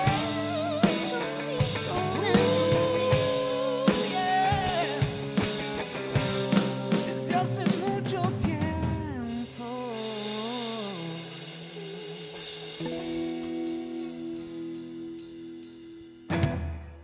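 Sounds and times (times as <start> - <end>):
band with drums and percussion: 0.0 - 17.0.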